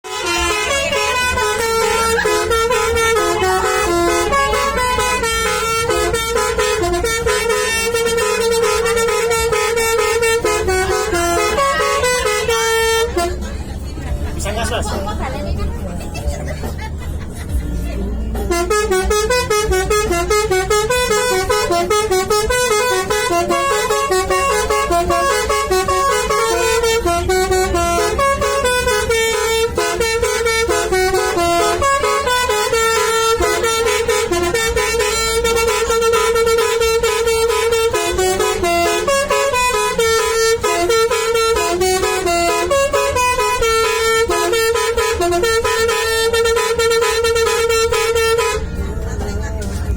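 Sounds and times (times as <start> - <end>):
musical multi-tone bus horn: 0.0 - 49.9.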